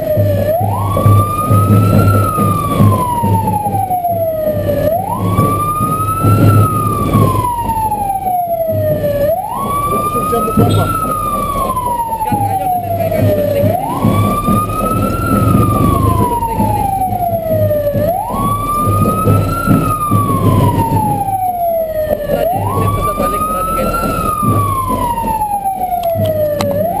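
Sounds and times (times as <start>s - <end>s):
motorcycle engine: 0.0s - 27.0s
road noise: 0.0s - 27.0s
wailing siren: 0.0s - 27.0s.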